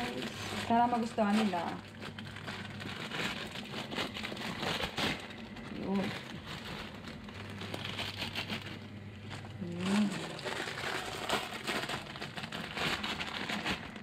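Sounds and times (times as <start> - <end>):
plastic packets crinkling: 0.0 - 14.0.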